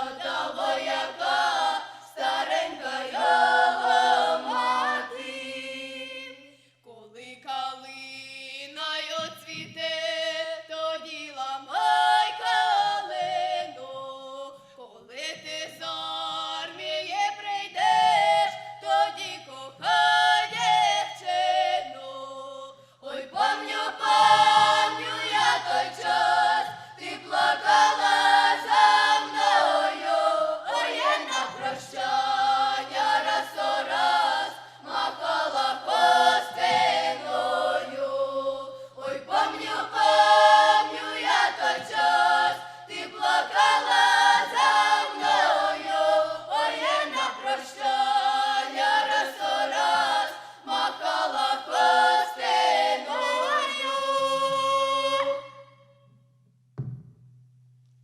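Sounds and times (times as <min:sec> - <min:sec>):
children's choir singing: 0:00.0 - 0:06.4, 0:11.7 - 0:14.2, 0:15.9 - 0:55.7.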